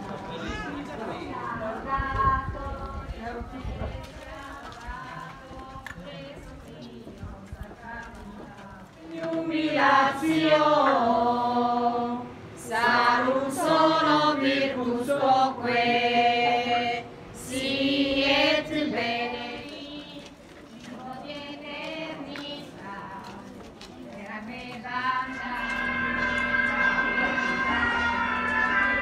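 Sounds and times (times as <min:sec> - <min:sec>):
crowd singing a hymn: 0:00.0 - 0:29.0.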